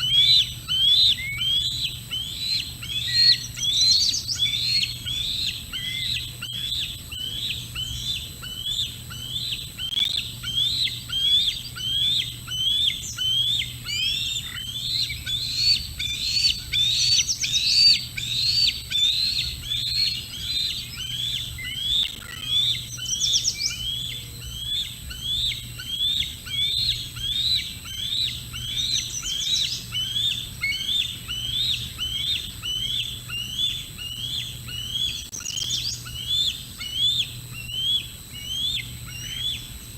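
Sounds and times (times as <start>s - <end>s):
bird calling rising notes: 0.0s - 39.8s
small birds chirping: 0.0s - 39.9s.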